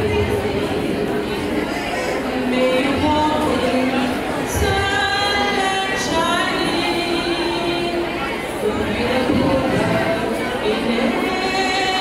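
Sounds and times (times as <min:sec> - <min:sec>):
woman singing: 0:02.4 - 0:12.0.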